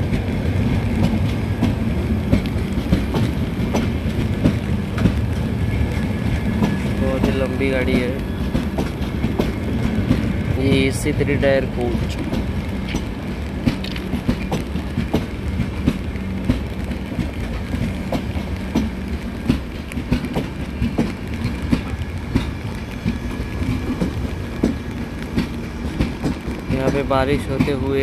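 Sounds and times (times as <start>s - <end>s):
train coaches rumbling: 0.0s - 28.0s
wheels clacking over rail joints: 0.0s - 28.0s.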